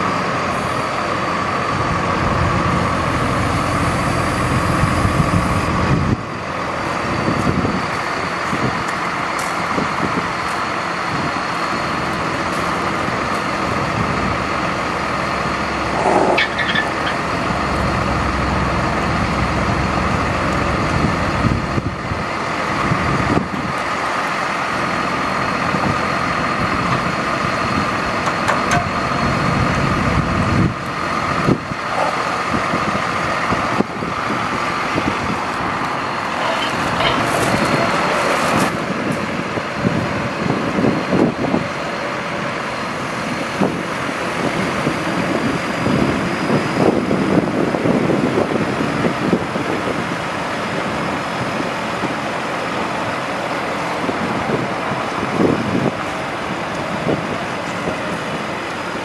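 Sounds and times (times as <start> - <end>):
high hydraulic whine: 0.0 - 59.0
truck engine running: 0.0 - 59.0.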